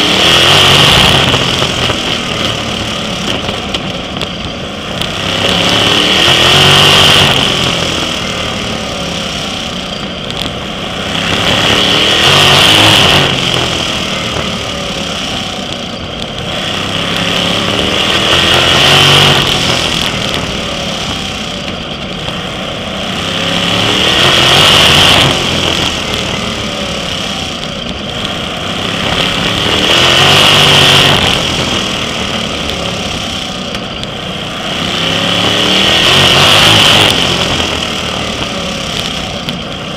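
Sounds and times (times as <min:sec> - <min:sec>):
racing car engine revving: 0:00.0 - 0:39.9.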